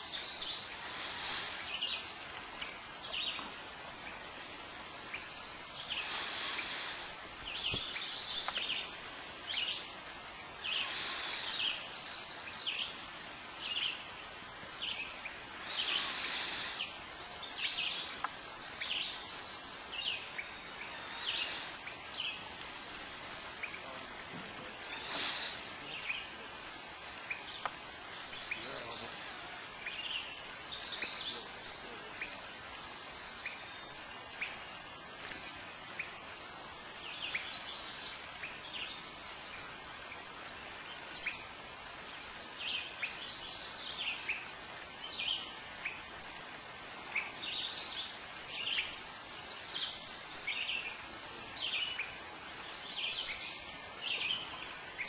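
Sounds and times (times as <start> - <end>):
low steady hiss: 0.0 - 55.0
songbirds chirping: 0.0 - 55.0.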